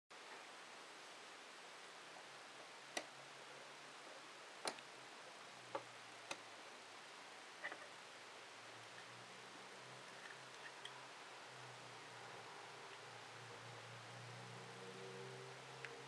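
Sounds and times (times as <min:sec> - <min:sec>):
faint hiss: 0:00.2 - 0:16.0.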